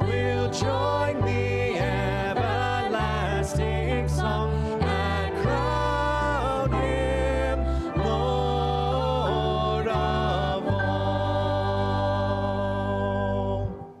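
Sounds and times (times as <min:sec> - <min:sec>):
hymn with instruments: 0:00.0 - 0:14.0.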